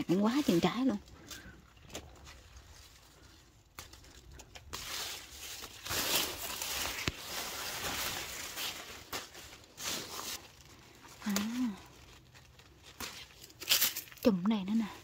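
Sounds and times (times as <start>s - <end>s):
leaves rustling and crackling: 0.0s - 15.0s.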